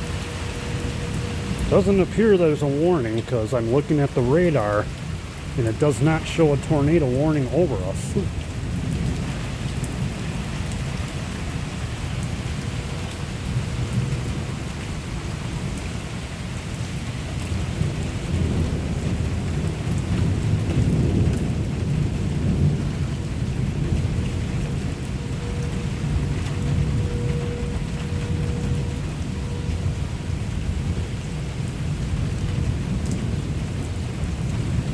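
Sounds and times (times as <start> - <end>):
steady rain: 0.0 - 34.9
thunder rumbling: 0.0 - 34.9.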